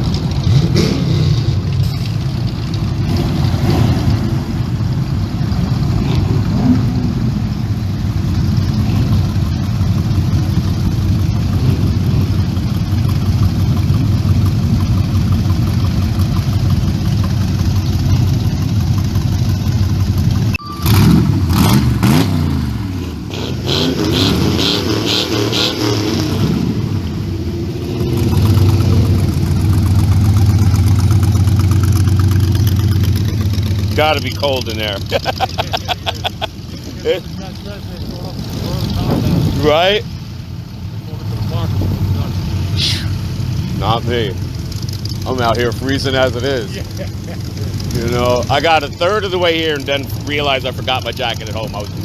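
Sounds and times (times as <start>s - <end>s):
car engine idling: 0.0s - 52.0s
car engines revving: 0.0s - 52.0s.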